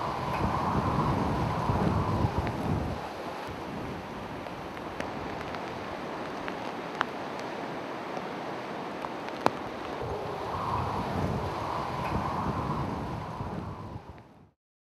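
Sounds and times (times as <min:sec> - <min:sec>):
rough water: 0:00.0 - 0:14.1
typhoon wind: 0:00.0 - 0:14.5.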